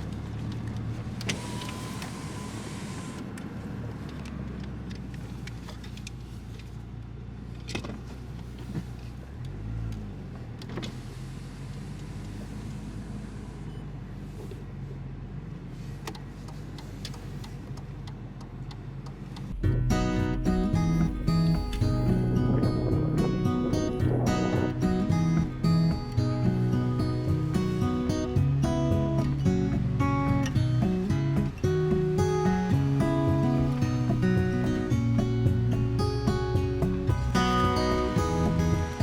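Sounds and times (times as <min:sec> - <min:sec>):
car engine hum: 0:00.0 - 0:39.0
road noise inside car: 0:00.0 - 0:39.0.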